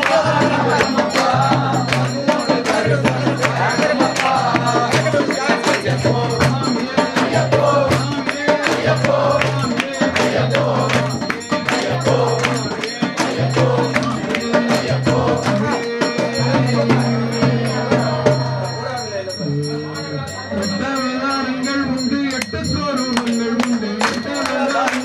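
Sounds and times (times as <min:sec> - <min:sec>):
jingling percussion beat: 0:00.0 - 0:25.0
person singing: 0:00.0 - 0:25.0.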